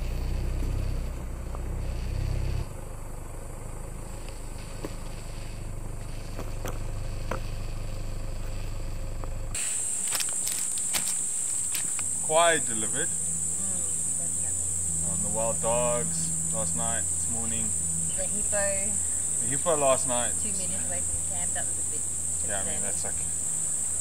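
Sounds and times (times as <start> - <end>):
insects buzzing: 0.0 - 24.0
vehicle engine rumbling: 0.0 - 24.0.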